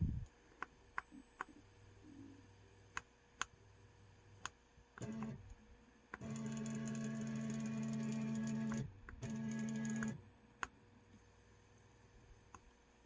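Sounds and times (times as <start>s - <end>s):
motors running with multi-tone hum: 1.1s - 13.0s.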